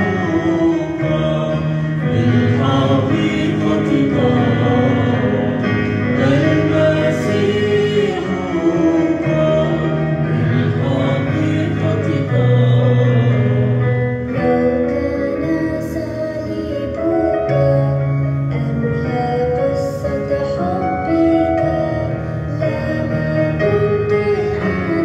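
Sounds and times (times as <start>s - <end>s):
choir singing a hymn: 0.0s - 25.0s
instrumental accompaniment: 0.0s - 25.0s.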